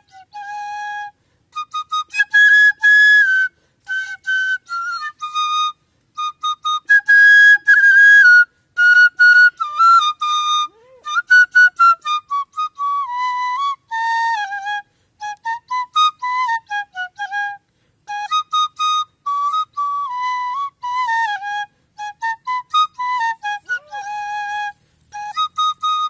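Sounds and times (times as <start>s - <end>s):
bamboo flute melody: 0.0s - 26.0s.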